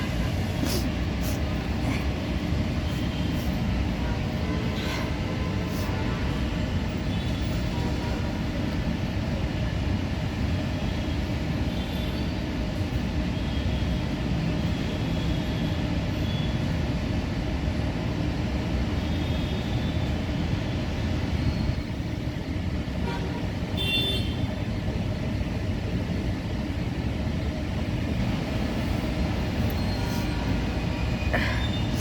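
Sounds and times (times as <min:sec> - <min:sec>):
low rumbling background noise: 0:00.0 - 0:32.0.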